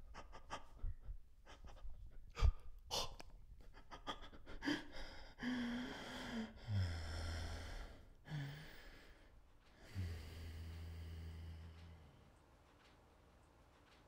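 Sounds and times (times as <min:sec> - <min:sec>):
heavy breathy exhalations and gasps: 0:00.0 - 0:12.1.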